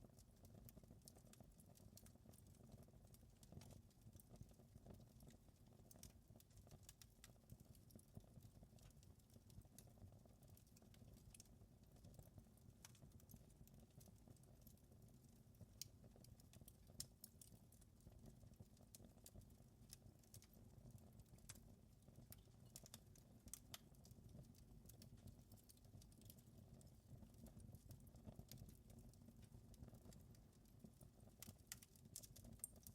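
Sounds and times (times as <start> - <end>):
wood fire crackling: 0.1 - 32.9.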